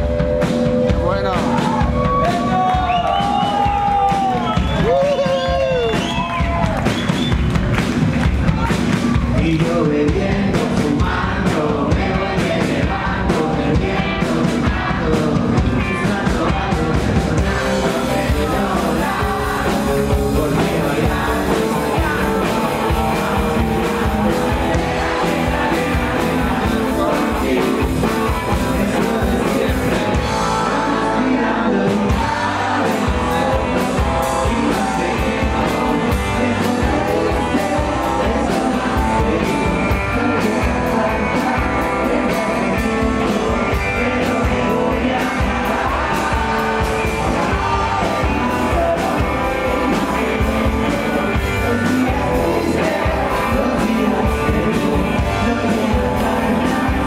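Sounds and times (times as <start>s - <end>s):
live rock band playing: 0.0s - 57.0s
man singing lead vocals: 8.6s - 57.0s.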